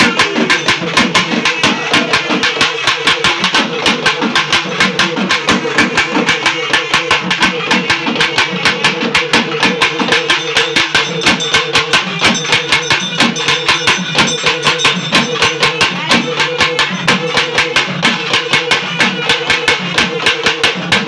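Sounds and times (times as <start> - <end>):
fast ritual drumming: 0.0 - 21.0.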